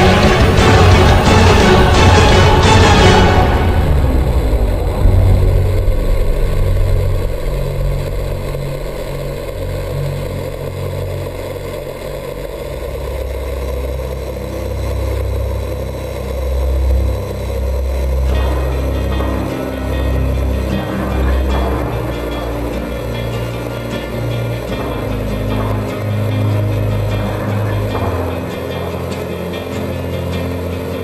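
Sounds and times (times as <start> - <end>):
rc truck drivetrain rumble: 3.3 - 31.0.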